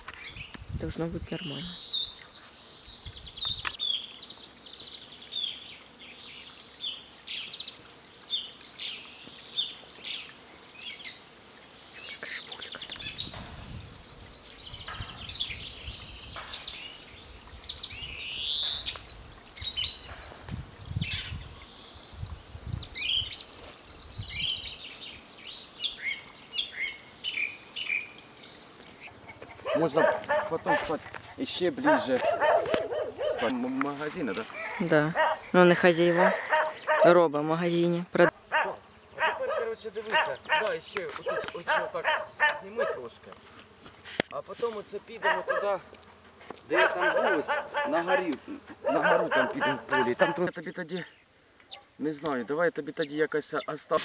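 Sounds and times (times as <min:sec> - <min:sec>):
songbirds singing: 0:00.0 - 0:43.3, 0:45.0 - 0:45.8, 0:46.7 - 0:54.0.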